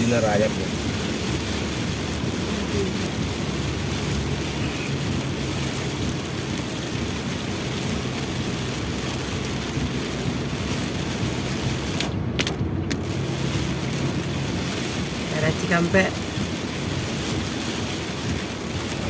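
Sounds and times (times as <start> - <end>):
engine and tyres humming: 0.0 - 19.0
heavy rain on a car: 0.0 - 19.0.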